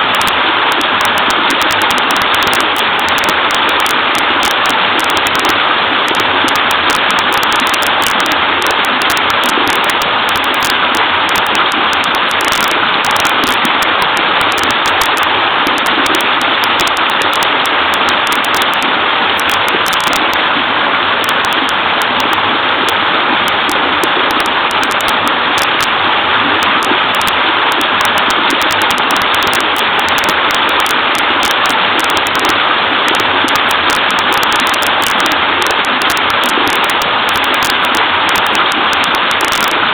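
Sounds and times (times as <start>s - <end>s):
waterfall water pouring and splashing: 0.0s - 39.9s.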